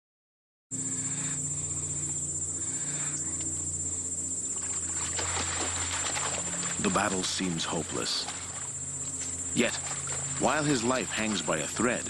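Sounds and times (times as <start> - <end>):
insects chirring: 0.7 - 12.0
low steady hum: 0.7 - 12.0.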